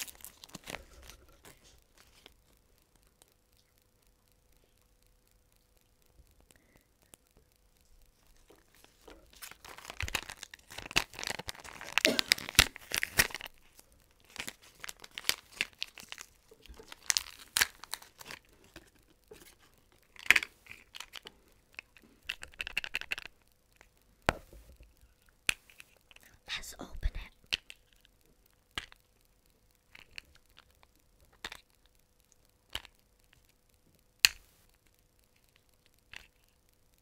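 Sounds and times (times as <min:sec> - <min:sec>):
plastic wrapper crinkling: 0:00.0 - 0:03.6, 0:06.4 - 0:24.1, 0:24.8 - 0:33.6.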